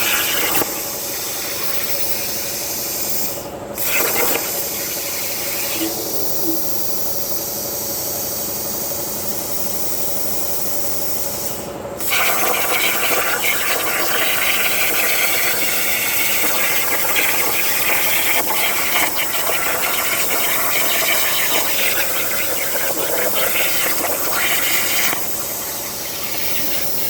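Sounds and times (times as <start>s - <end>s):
plasma cutter hissing: 0.0s - 7.1s, 11.4s - 27.0s.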